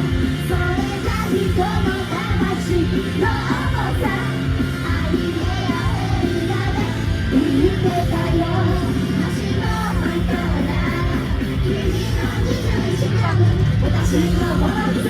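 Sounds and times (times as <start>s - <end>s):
rock pop song over sound system: 0.0s - 15.0s
person singing: 0.5s - 15.0s.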